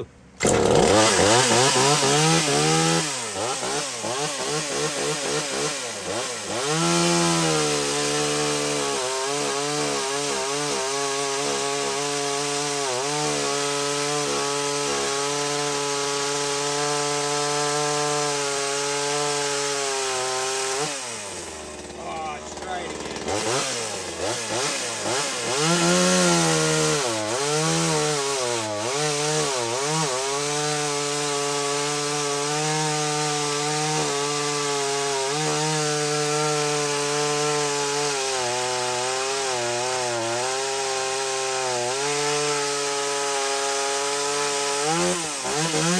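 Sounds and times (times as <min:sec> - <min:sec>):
chainsaw cutting through log: 0:00.0 - 0:45.9.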